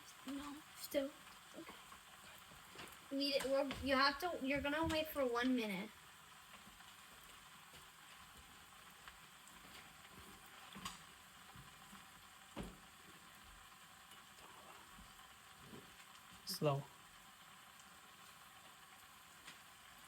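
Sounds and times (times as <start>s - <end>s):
banana slices sizzling in oil: 0.0s - 20.0s.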